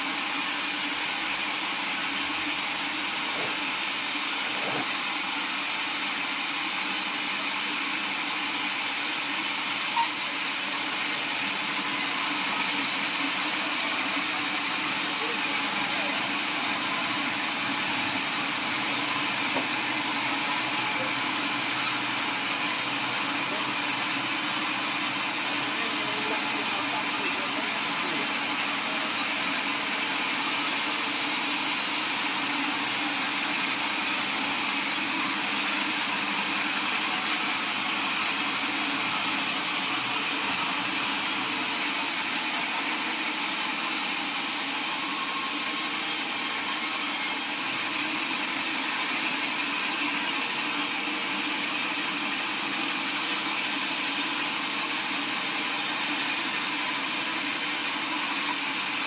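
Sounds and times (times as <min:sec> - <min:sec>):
sawmill machinery whirring: 0:00.0 - 0:59.0.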